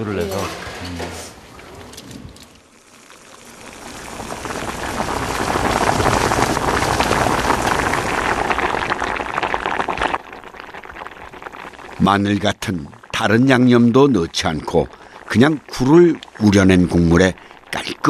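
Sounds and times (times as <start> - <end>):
pot boiling hard: 0.0 - 18.0.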